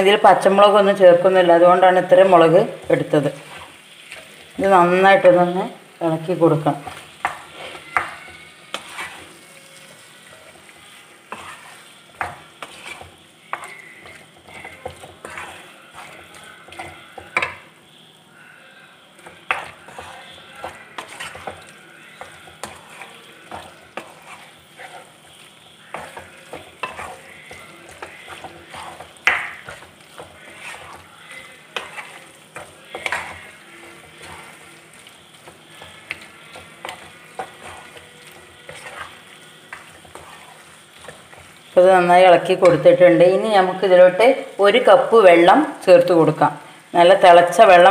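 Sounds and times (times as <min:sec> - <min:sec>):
low sizzle: 0:00.0 - 0:47.9
wooden spatula scraping pan: 0:00.1 - 0:17.8, 0:19.2 - 0:43.9.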